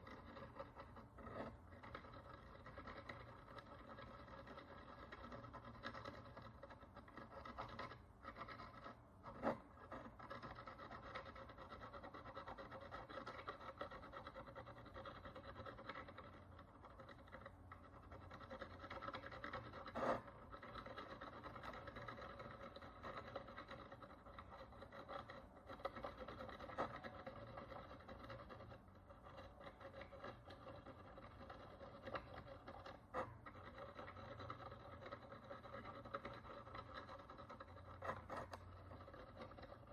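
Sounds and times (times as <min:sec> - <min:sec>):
hand tool scratching a coin: 0:00.0 - 0:39.9.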